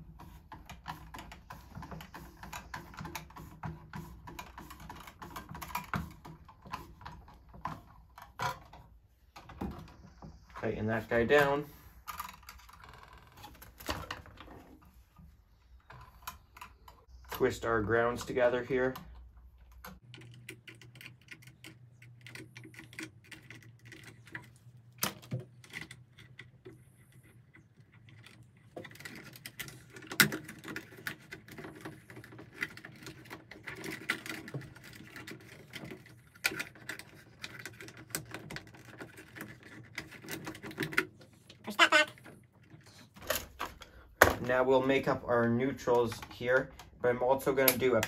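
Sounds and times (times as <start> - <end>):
wire clicks and scrapes: 0.0 - 48.0.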